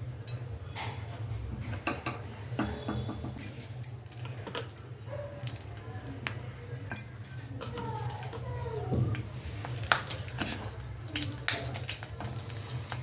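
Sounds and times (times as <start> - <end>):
dishes and utensils clinking: 0.3 - 13.0.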